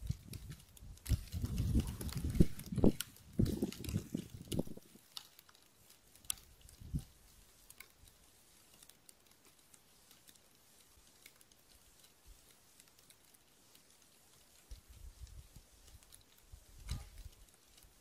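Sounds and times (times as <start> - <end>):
faint ticks and clicks: 0.0 - 18.0.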